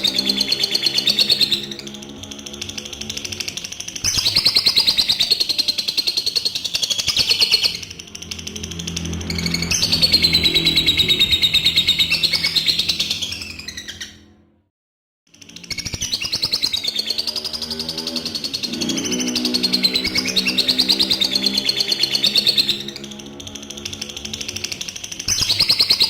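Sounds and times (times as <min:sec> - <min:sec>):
lovebird chattering trills: 0:00.0 - 0:14.1, 0:15.7 - 0:26.0.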